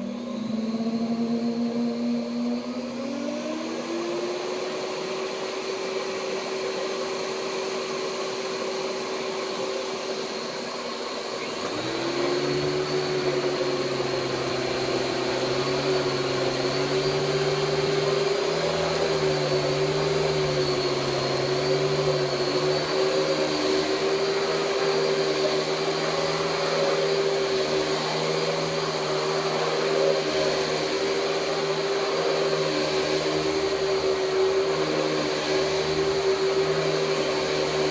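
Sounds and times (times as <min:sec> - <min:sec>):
vacuum cleaner motor hum: 0:00.0 - 0:37.9.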